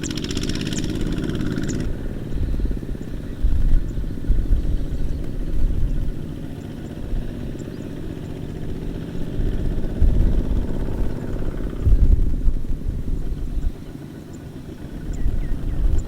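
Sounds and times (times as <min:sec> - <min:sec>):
tractor diesel engine chugging: 0:00.0 - 0:16.0.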